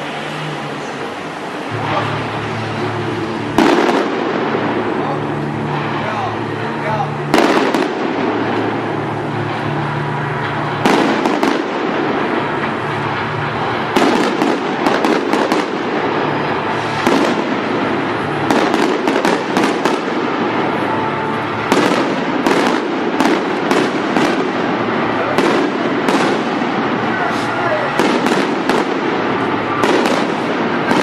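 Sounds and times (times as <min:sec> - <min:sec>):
continuous noisy background: 0:00.0 - 0:31.0
fireworks bangs and crackles: 0:00.0 - 0:31.0.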